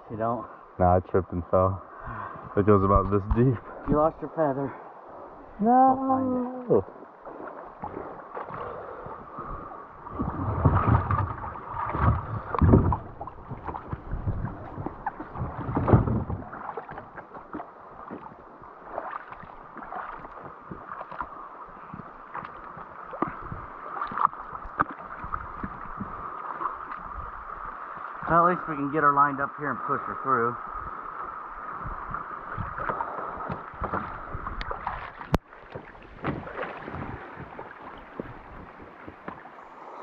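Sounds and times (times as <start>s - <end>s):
river water splashing and sloshing: 0.0s - 40.0s.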